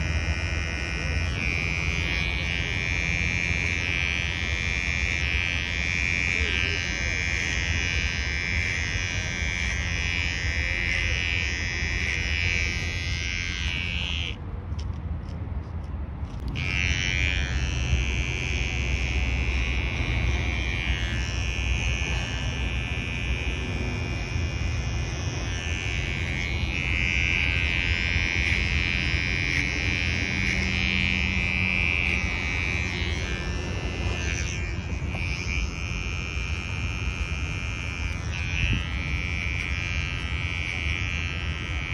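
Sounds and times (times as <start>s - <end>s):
electric hair clipper buzzing: 0.0s - 14.4s, 16.4s - 41.9s.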